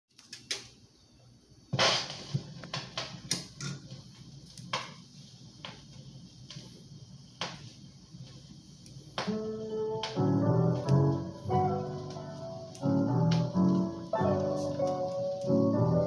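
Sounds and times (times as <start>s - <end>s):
steady low hum: 0.8s - 16.0s.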